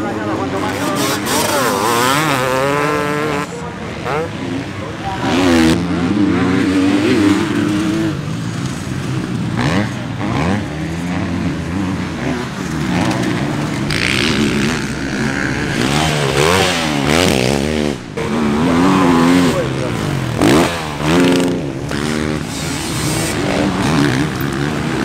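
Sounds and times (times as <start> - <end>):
motocross engines revving: 0.0 - 25.0.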